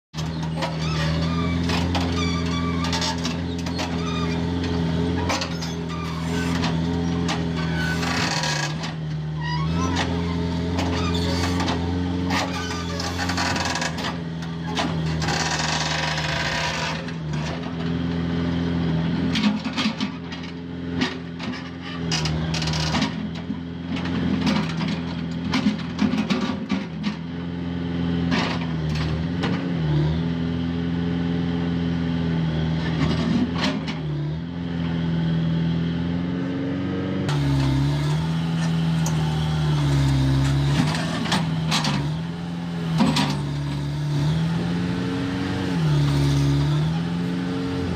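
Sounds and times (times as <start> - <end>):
diesel engine running: 0.2 - 47.9.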